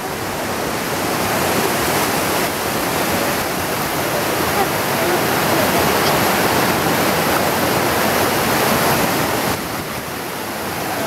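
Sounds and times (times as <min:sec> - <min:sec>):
river rapids rushing over boulders: 0:00.0 - 0:11.0.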